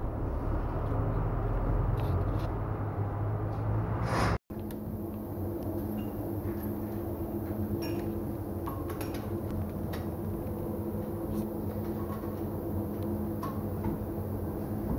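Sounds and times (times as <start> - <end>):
workshop machinery hum: 0.0 - 14.9.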